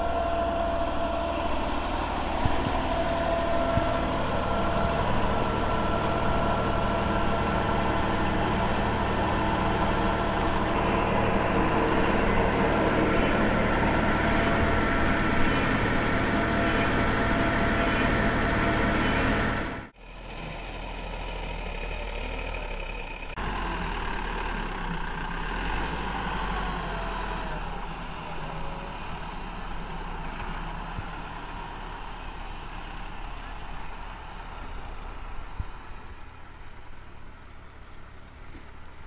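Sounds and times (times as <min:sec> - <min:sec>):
quieter tractor engine: 0:00.0 - 0:39.0
tractor diesel engine running: 0:00.0 - 0:39.0.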